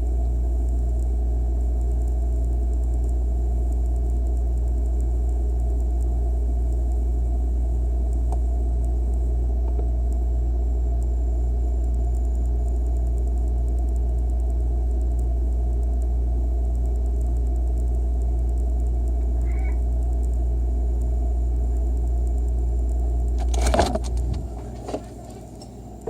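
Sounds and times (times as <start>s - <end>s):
refrigerator hum: 0.0s - 26.0s.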